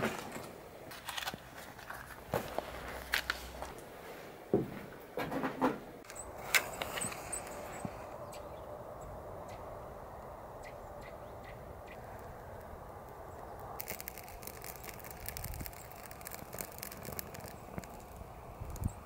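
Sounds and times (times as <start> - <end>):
birch bark crackling: 0.0 - 3.9, 6.0 - 19.0.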